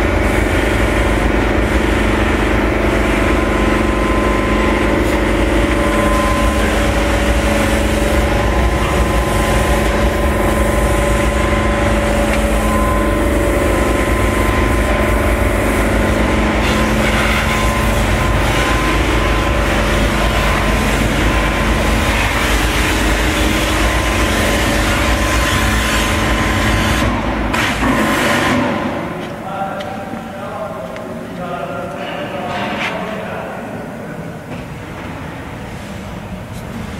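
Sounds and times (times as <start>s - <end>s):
machinery humming: 0.0s - 36.9s.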